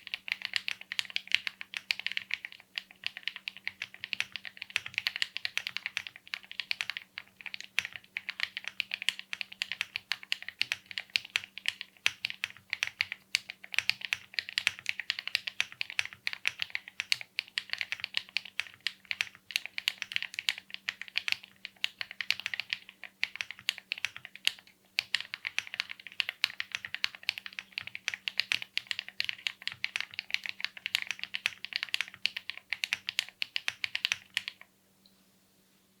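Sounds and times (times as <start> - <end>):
mechanical keyboard typing: 0.0 - 34.7.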